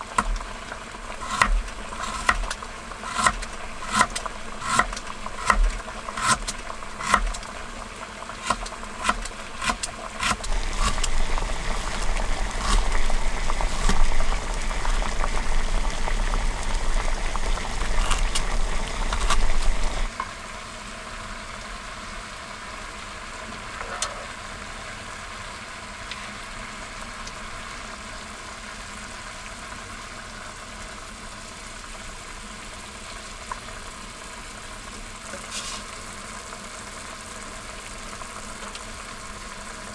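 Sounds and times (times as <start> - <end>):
water boiling in a pot: 0.0 - 39.9.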